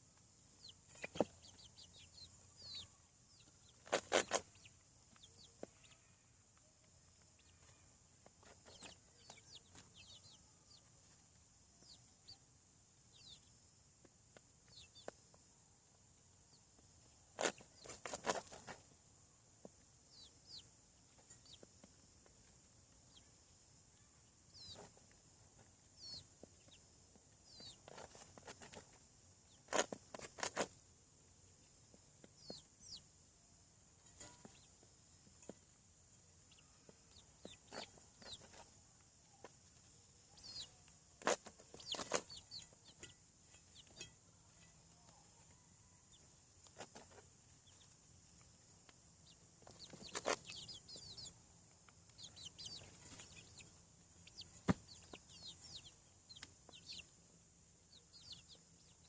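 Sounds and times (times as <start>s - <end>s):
chicks peeping and clucking: 0.1s - 59.0s.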